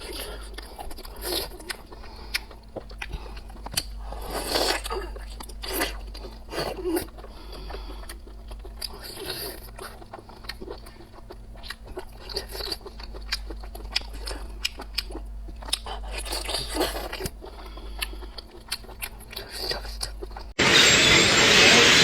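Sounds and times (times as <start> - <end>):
person chewing seafood: 0.0 - 20.6.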